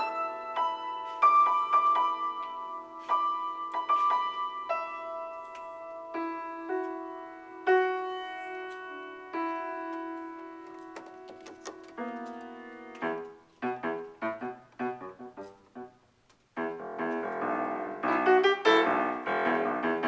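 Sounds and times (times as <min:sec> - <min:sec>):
piano improvisation: 0:00.0 - 0:20.0.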